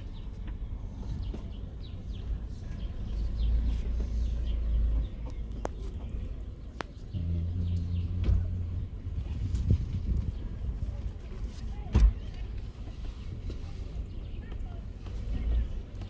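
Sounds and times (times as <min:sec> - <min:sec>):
engine hum: 0:00.0 - 0:16.0
low vehicle rumble: 0:00.0 - 0:16.0.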